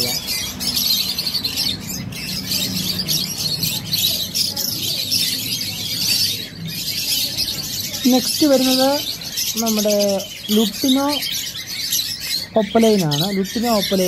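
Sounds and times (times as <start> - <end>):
lovebirds chirping and chattering: 0.0 - 14.0.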